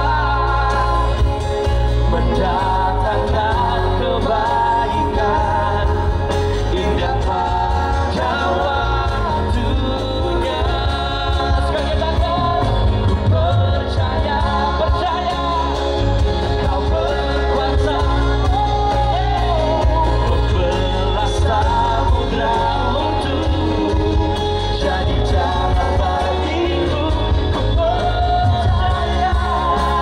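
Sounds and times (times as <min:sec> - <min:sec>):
drums: 0:00.0 - 0:30.0
electric bass: 0:00.0 - 0:30.0
guitars: 0:00.0 - 0:30.0
man singing into a microphone: 0:00.0 - 0:30.0.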